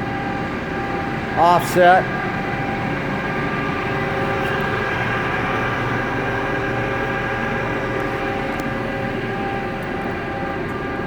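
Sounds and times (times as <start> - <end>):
machinery hum: 0.0 - 11.0
whining tones: 0.0 - 11.0.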